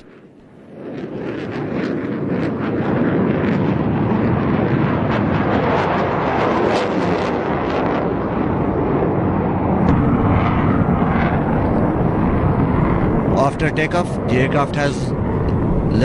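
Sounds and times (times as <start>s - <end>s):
jet engine rumble on takeoff: 0.0s - 16.0s.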